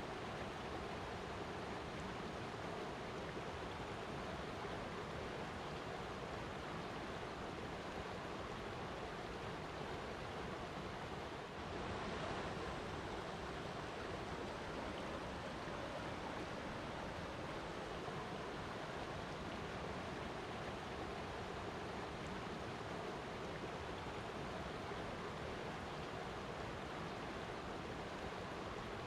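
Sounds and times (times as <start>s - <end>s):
water rushing: 0.1s - 29.0s.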